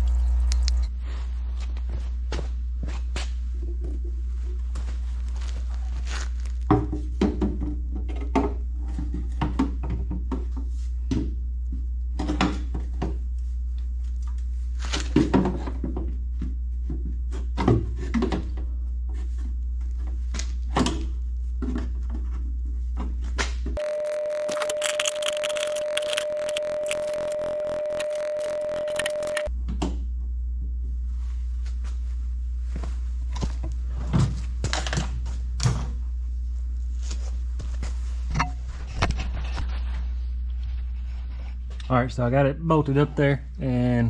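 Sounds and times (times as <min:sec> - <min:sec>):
steady low hum: 0:00.0 - 0:15.0, 0:15.6 - 0:44.0.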